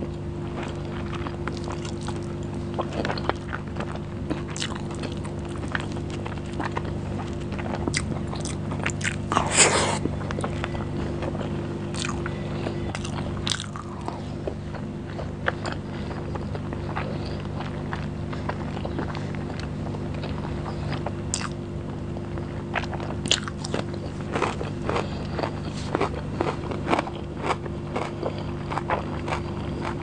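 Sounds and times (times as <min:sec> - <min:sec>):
crunchy chewing: 0:00.0 - 0:30.0
low hum: 0:00.0 - 0:30.0
chewing and wet mouth clicks: 0:01.2 - 0:10.8, 0:11.9 - 0:12.3, 0:12.9 - 0:15.8, 0:16.4 - 0:21.6, 0:22.8 - 0:30.0.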